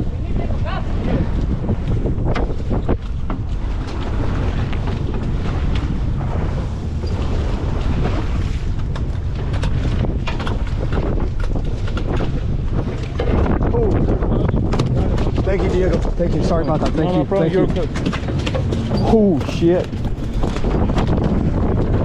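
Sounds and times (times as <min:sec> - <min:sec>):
boat engine rumble: 0:00.0 - 0:22.0
wind buffeting microphone: 0:00.0 - 0:22.0.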